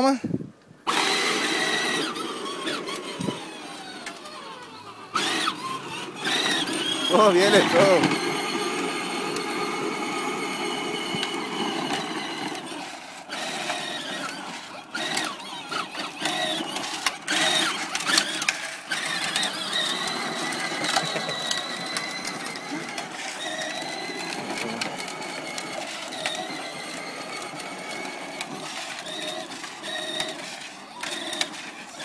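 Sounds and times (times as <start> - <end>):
plastic wheels clicking on paving: 0.8 - 32.0
toy electric motor whining: 0.8 - 32.0.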